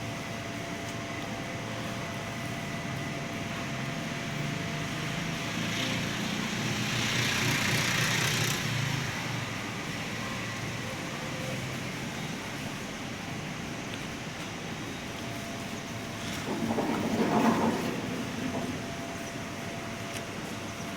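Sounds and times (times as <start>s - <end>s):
engine low rumble: 0.0s - 20.9s.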